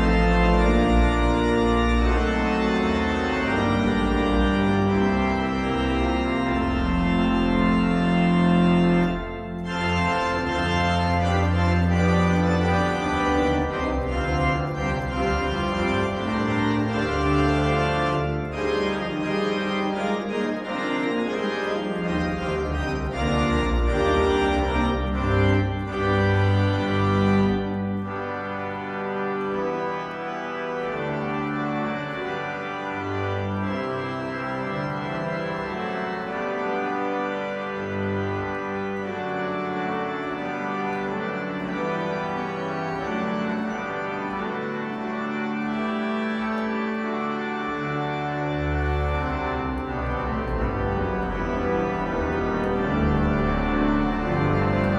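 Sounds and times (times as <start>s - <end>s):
low organ bass notes: 0.0s - 54.9s
pipe organ chords: 0.0s - 54.9s.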